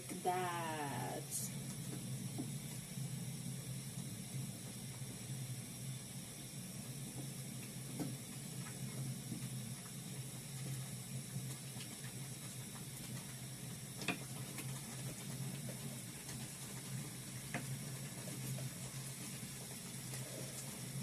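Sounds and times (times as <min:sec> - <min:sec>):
pot simmering hiss: 0:00.0 - 0:21.0.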